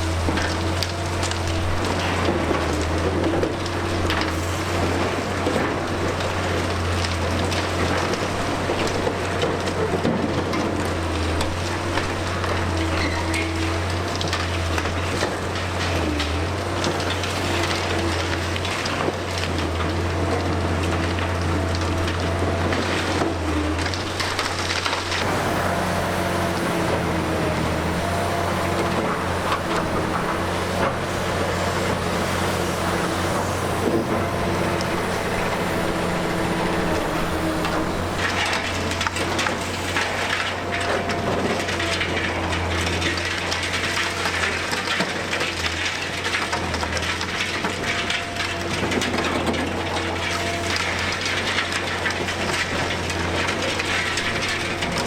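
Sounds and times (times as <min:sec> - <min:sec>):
debris cracking and crumbling: 0:00.0 - 0:55.0
excavator engine hum: 0:00.0 - 0:55.0.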